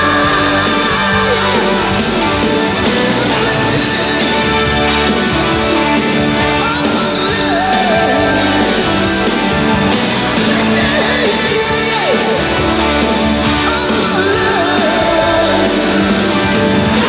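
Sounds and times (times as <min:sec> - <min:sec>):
rock song with vocals: 0:00.0 - 0:17.0.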